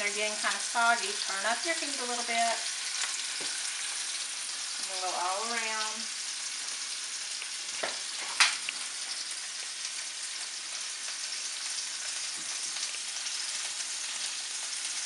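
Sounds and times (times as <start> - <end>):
meatballs sizzling in oil: 0.0 - 15.0.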